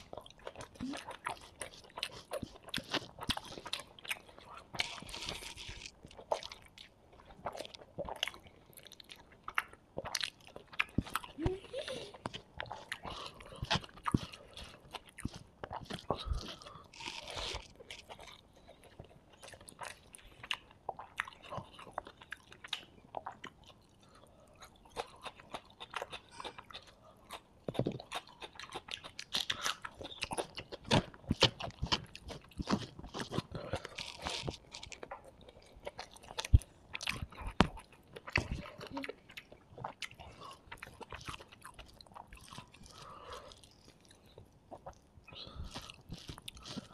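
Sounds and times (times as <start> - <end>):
close-miked chewing and crunching: 0.0 - 46.9.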